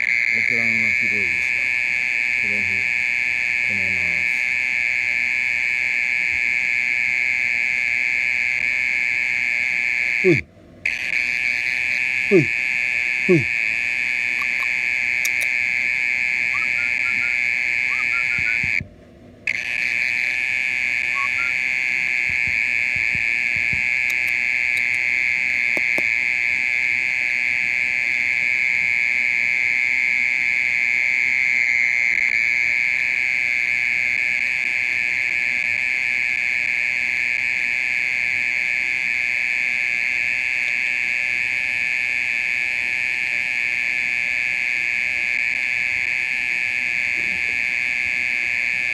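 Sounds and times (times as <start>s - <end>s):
mole cricket trilling: 0.0s - 18.8s, 19.5s - 48.9s.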